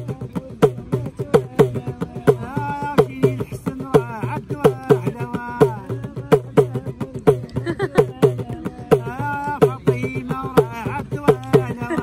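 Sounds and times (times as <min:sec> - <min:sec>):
goblet drum beaten by hand: 0:00.0 - 0:12.0
man singing: 0:00.0 - 0:12.0.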